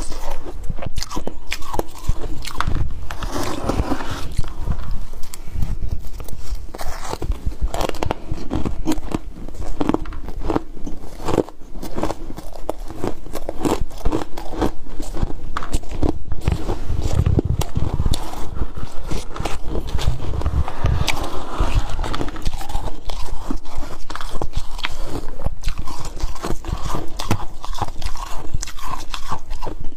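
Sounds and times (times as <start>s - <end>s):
frost being chewed: 0.0s - 29.9s.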